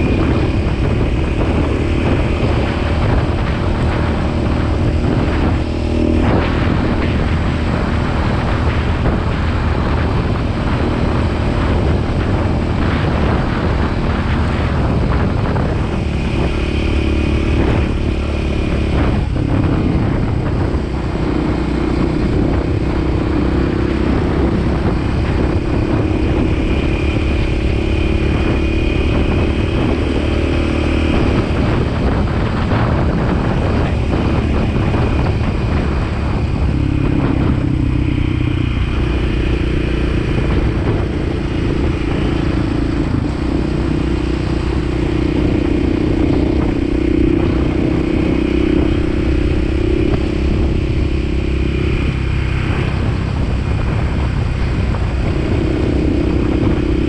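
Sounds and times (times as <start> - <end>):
motorcycle engine cruising: 0.0 - 57.0
wind buffeting microphone: 0.0 - 57.0.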